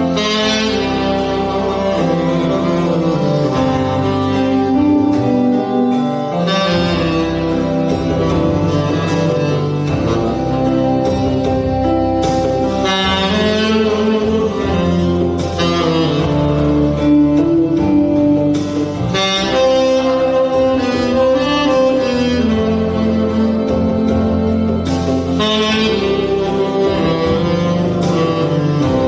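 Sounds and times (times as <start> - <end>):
backing accompaniment: 0.0 - 29.0
saxophone melody: 0.0 - 29.0.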